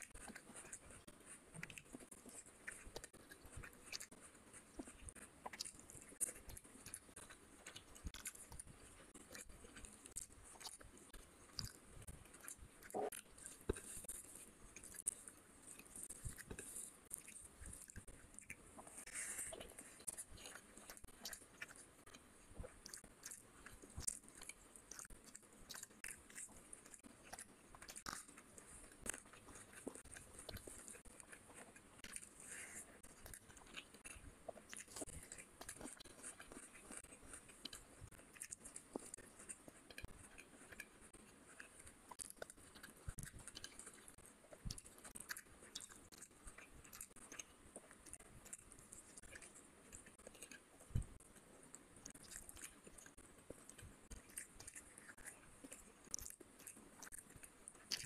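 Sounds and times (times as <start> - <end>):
person chewing food: 0.0 - 58.0
wet mouth clicks: 0.0 - 58.0.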